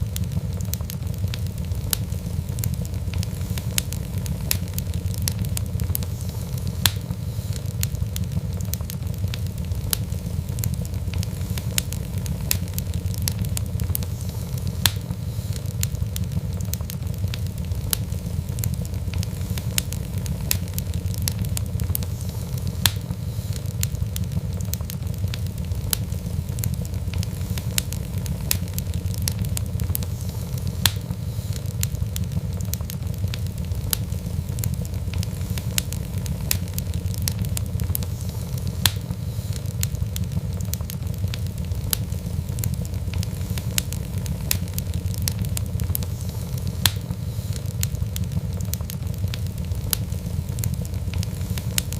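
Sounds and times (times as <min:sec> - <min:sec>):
fireplace fire crackling: 0:00.0 - 0:51.9.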